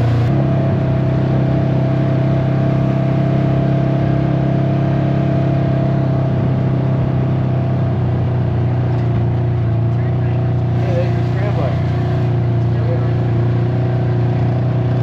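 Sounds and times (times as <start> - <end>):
engine humming while riding: 0.0 - 15.0.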